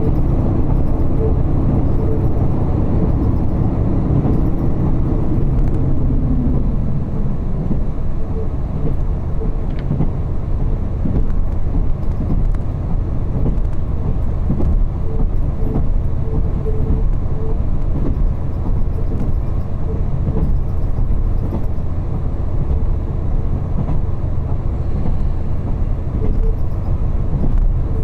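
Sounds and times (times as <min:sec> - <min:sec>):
train engine and wheels rumbling: 0:00.0 - 0:28.0.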